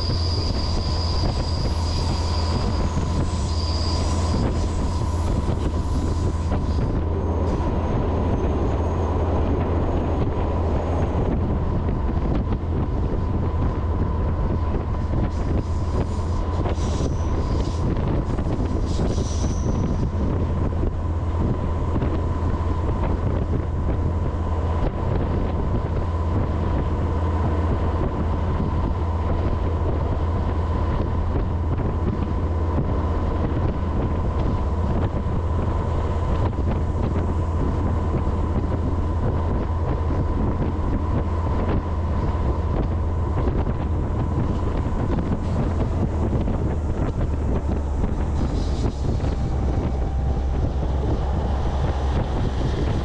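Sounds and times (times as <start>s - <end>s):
freight train rumbling: 0.0s - 53.0s
wind buffeting microphone: 0.0s - 53.0s.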